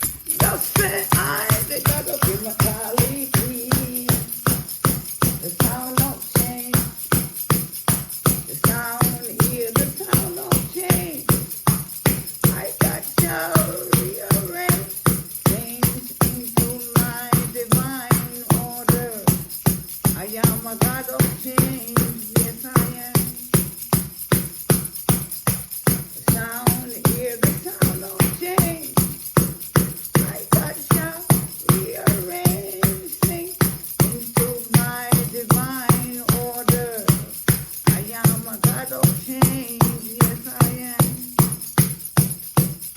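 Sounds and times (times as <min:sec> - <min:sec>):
jingle bells shaken: 0:00.0 - 0:42.9.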